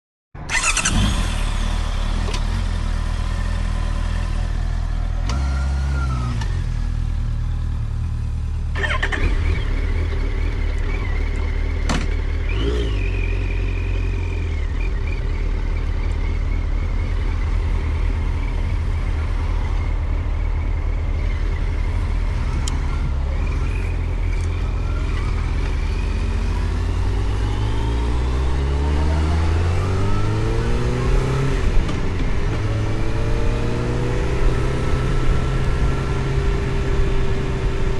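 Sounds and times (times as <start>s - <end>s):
car engine and road noise: 0.4s - 37.9s.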